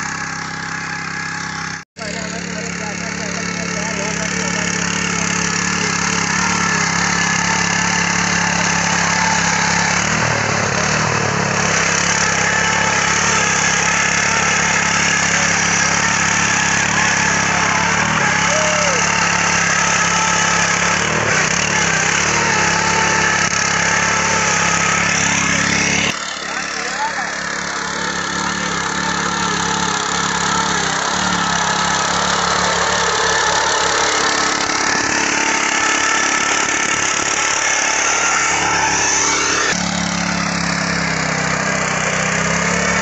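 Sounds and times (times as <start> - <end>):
power tiller engine running: 0.0 - 43.0
tines churning soil: 0.0 - 43.0.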